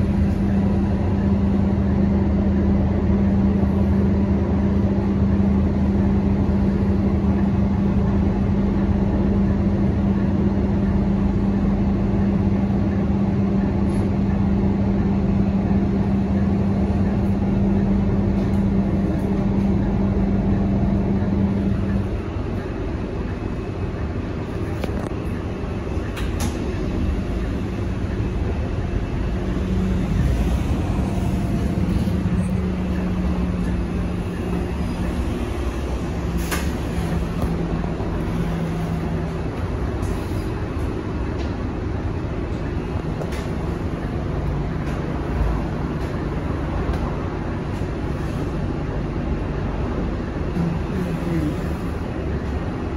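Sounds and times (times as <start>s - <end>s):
bus engine droning: 0.0s - 52.9s.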